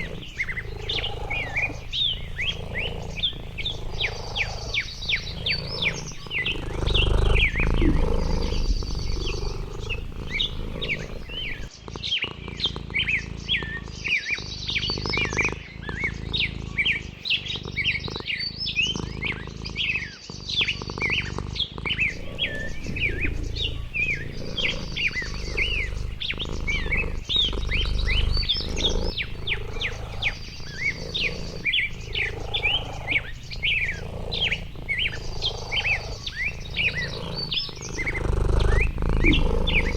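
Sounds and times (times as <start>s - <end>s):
birds chirping: 0.0s - 39.9s
high bird trill: 0.0s - 39.9s.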